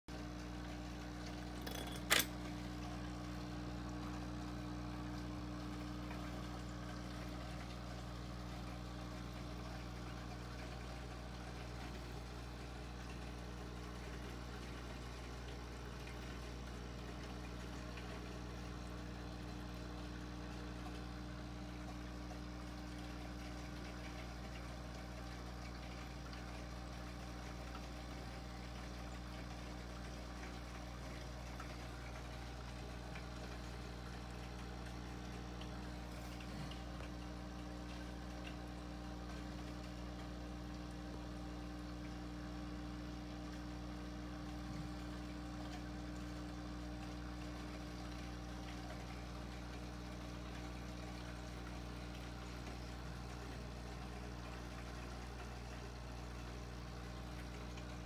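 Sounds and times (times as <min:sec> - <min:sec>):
aquarium pump humming: 0:00.1 - 0:58.0
faint bubbling water: 0:00.1 - 0:58.0.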